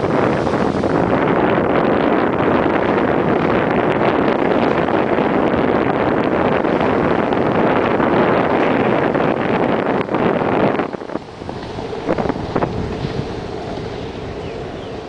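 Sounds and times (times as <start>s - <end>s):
wind on microphone: 0.0s - 15.0s
jet ski engine: 2.5s - 15.0s.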